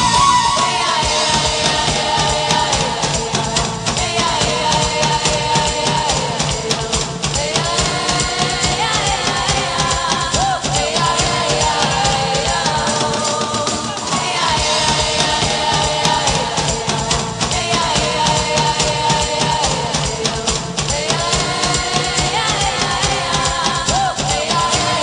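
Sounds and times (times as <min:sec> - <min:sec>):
rock-pop song with singing: 0:00.0 - 0:25.0.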